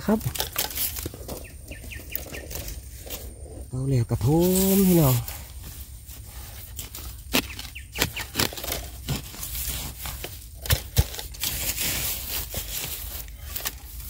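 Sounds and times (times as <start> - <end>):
soil and dry leaves rustling: 0.0 - 14.0.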